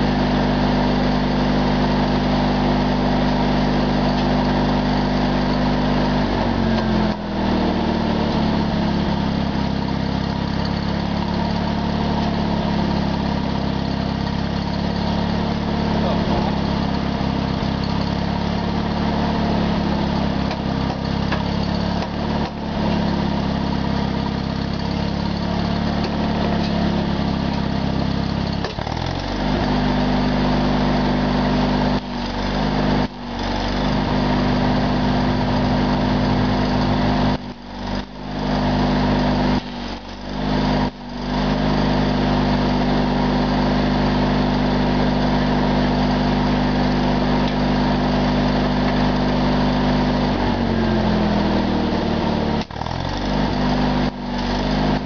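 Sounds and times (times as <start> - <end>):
small engine running: 0.0 - 55.0
welding arc sputtering and hissing: 2.2 - 55.0.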